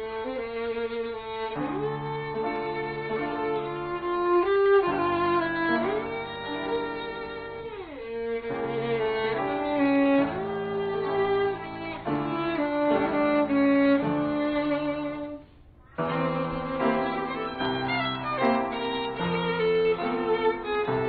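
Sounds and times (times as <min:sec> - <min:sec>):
bowed strings music: 0:00.0 - 0:21.0.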